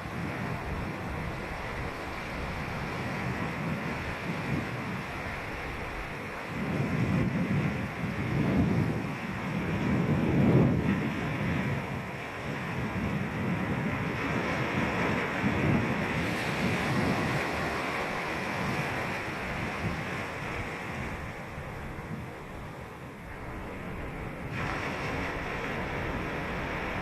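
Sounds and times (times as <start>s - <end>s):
ocean surf breaking on beach: 0.0s - 27.0s
wind on microphone: 0.0s - 27.0s.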